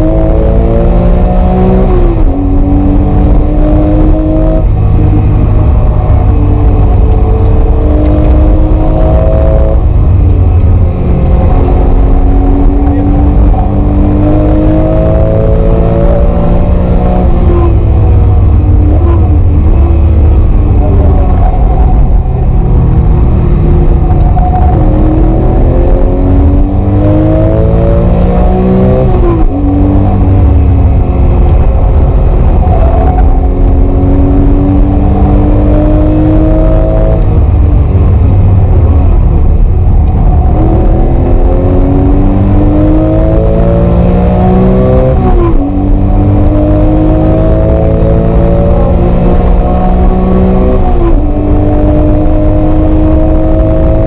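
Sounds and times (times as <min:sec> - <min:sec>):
car engine accelerating at full load: 0:00.0 - 0:54.0.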